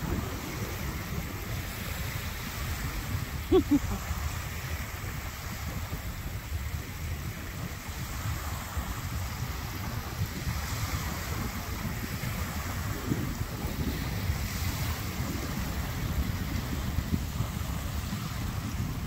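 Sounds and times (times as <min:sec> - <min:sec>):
choppy water: 0:00.0 - 0:19.0
wind rumbling on microphone: 0:00.0 - 0:19.0.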